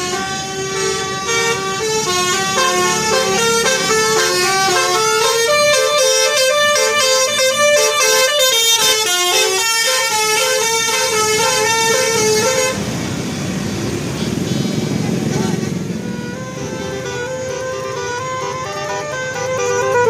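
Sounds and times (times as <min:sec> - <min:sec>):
multi-tone bus horn tune: 0:00.0 - 0:13.0, 0:14.0 - 0:20.0.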